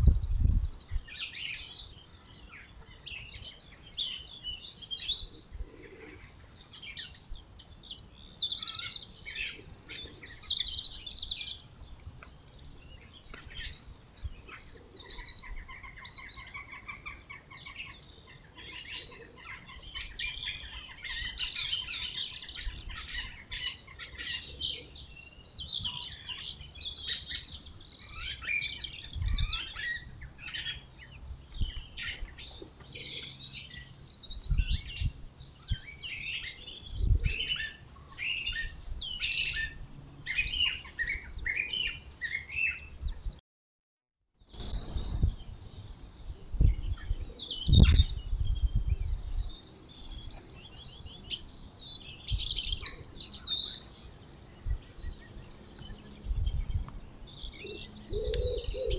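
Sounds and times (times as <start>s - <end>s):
songbirds chirping: 0.0s - 43.4s, 44.4s - 58.9s.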